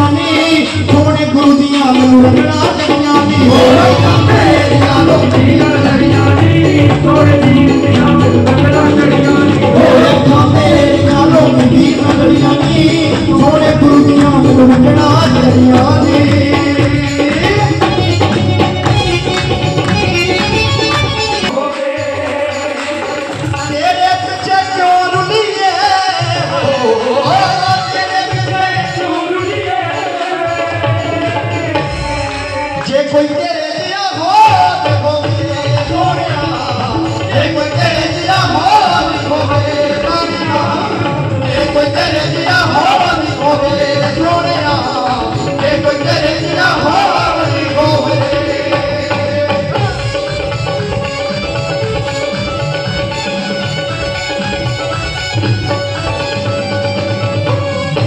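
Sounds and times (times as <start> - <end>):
devotional music over loudspeakers: 0.0 - 58.0
tabla beat: 0.0 - 58.0.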